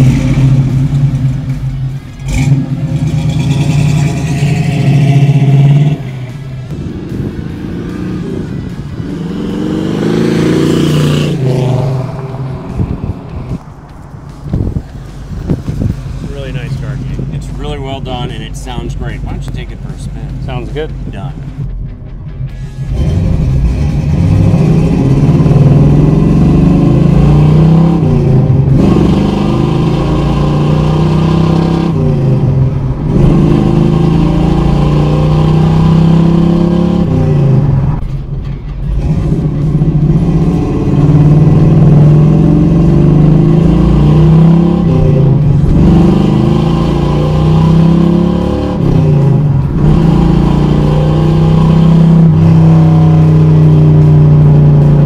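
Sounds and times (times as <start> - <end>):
car engine accelerating through gears: 0.0 - 16.2, 22.5 - 55.0.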